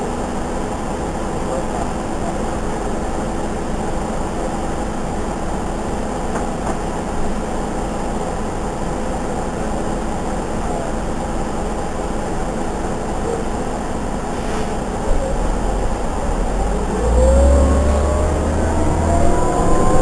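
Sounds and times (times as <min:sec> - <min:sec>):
bus engine idling: 0:00.0 - 0:20.0.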